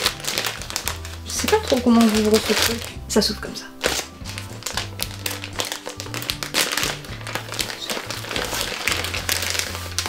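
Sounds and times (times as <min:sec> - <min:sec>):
background music with bass: 0:00.0 - 0:10.0
plastic packaging crinkling: 0:00.0 - 0:10.0.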